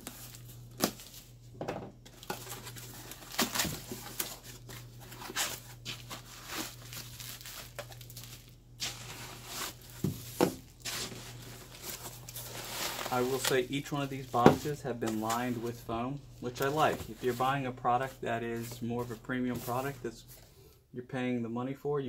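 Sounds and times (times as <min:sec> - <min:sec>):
foam packing sheets rustling: 0:00.0 - 0:20.5.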